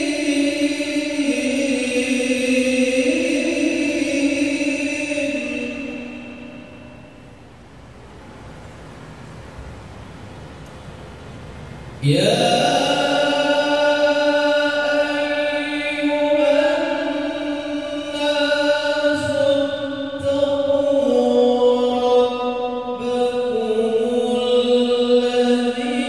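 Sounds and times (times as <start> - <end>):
man reciting melodically: 0.0 - 7.2, 12.0 - 26.0.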